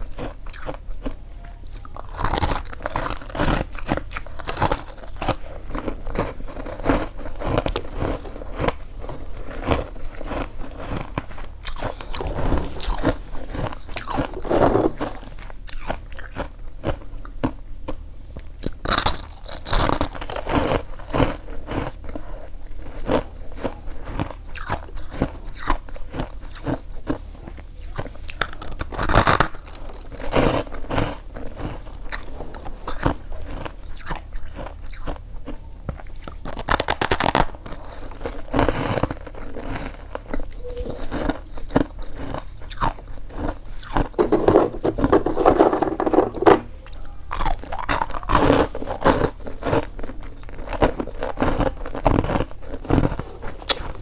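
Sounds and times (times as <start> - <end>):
crunching of frost between teeth: 0.0 - 54.0.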